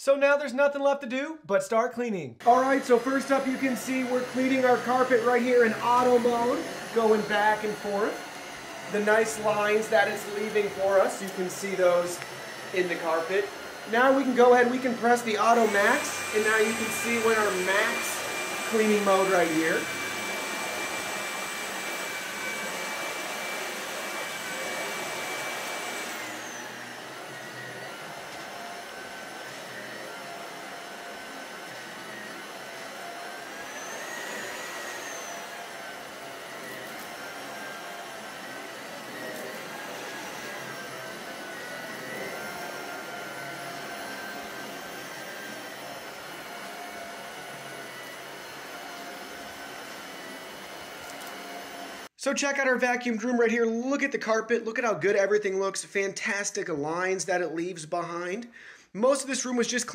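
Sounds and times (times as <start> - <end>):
stick vacuum running on carpet: 2.4 - 52.2.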